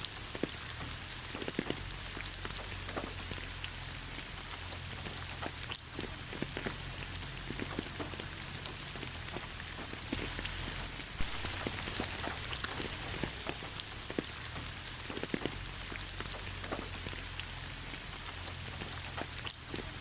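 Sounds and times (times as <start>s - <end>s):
rain falling: 0.0s - 20.0s
raindrops pattering: 0.0s - 20.0s.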